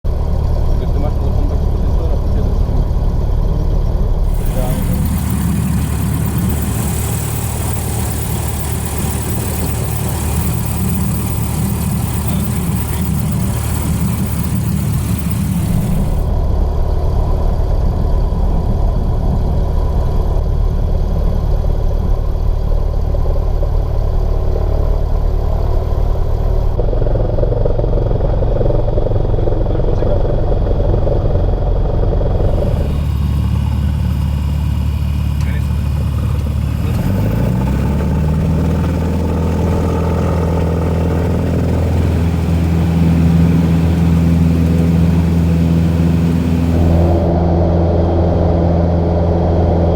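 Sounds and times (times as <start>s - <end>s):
propeller plane engine droning: 0.1s - 49.9s.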